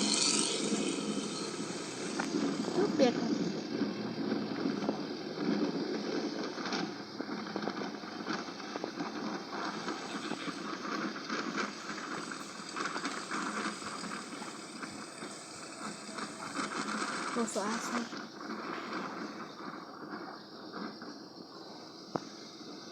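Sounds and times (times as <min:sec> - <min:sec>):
bus engine and tyre noise: 0:00.0 - 0:22.9.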